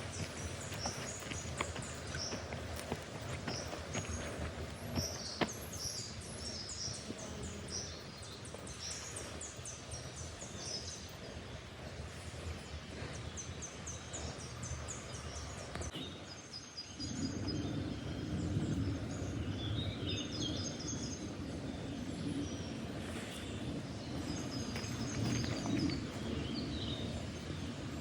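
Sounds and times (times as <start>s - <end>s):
songbirds singing and chirping: 0.0s - 28.0s.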